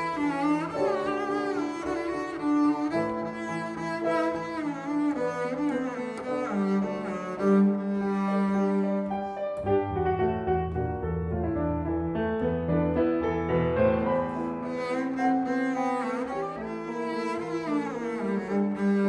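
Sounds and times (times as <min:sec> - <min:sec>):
bowed double bass: 0:00.0 - 0:19.0
grand piano chords: 0:00.0 - 0:19.0.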